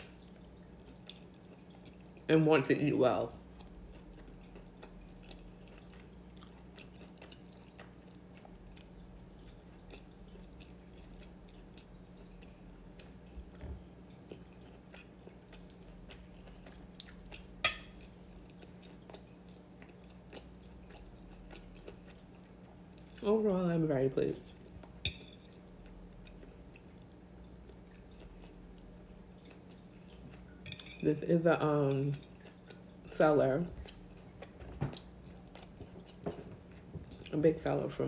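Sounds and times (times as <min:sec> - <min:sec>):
person chewing food: 0:00.0 - 0:02.3, 0:03.4 - 0:23.2, 0:24.5 - 0:31.0, 0:32.2 - 0:33.1, 0:33.7 - 0:37.3.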